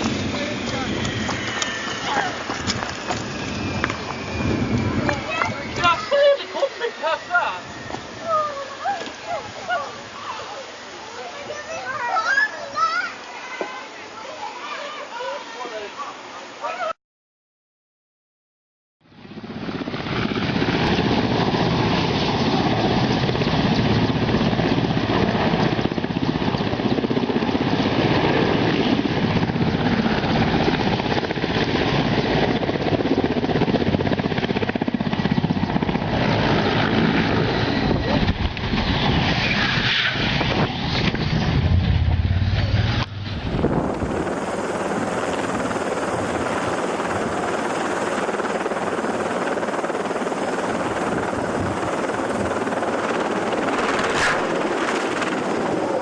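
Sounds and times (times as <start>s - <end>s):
helicopter rotor and engine: 0.0s - 12.7s, 19.1s - 56.0s.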